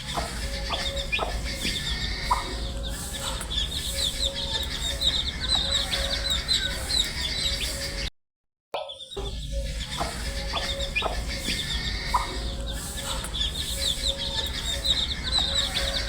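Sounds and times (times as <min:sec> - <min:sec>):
baby chicks peeping: 0:00.0 - 0:08.1, 0:08.8 - 0:16.0.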